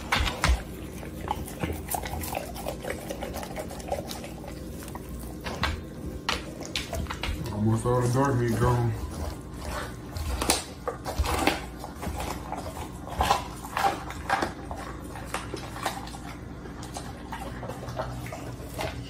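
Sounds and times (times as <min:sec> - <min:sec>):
dog chewing raw meat: 0:00.0 - 0:19.0.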